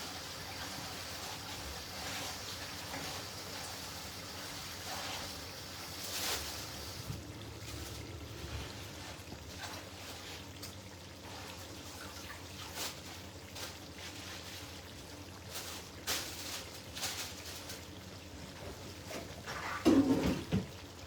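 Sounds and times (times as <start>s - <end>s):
liquid trickling: 0.0s - 21.0s.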